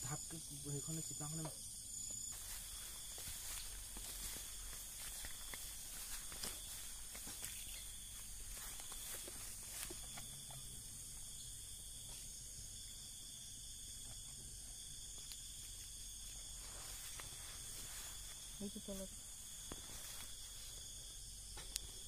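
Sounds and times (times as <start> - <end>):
night insects chirring: 0.0 - 22.0.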